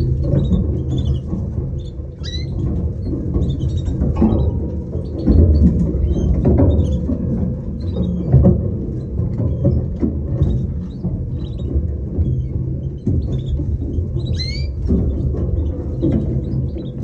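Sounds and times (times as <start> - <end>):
knocks: 0.0 - 17.0
canaries chirping: 0.1 - 17.0.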